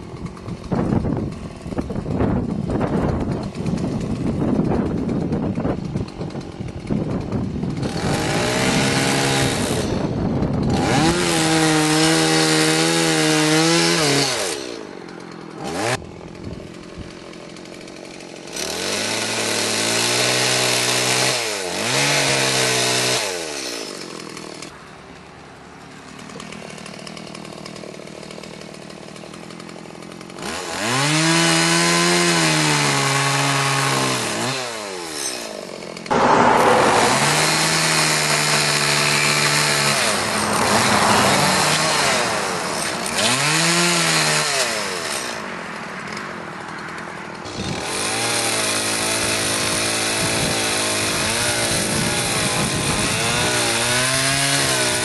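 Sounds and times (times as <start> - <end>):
chainsaw cutting into log: 0.0 - 55.0
chainsaw revving and idling: 0.0 - 55.0.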